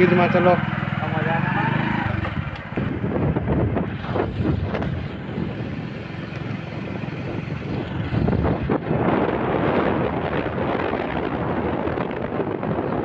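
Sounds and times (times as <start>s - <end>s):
motorcycle engine running: 0.0s - 13.0s
wind buffeting microphone: 1.9s - 13.0s.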